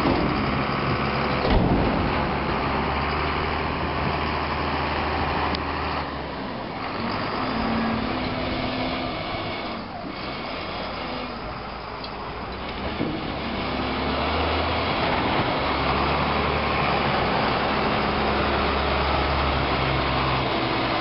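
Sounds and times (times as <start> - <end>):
heavy machinery engines running: 0.0 - 21.0.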